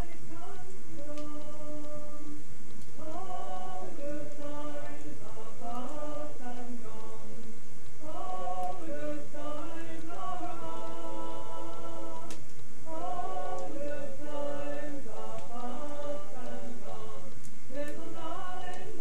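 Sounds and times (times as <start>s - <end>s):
voices singing together: 0.0s - 19.0s.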